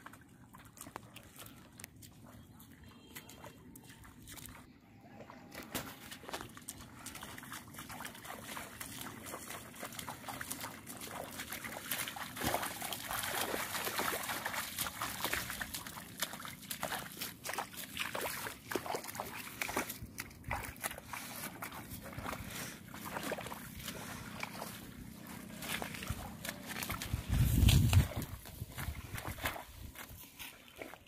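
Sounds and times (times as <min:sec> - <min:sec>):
bare feet splashing in shallow water: 0:00.0 - 0:31.0
leafy rustling of water plants: 0:05.3 - 0:31.0.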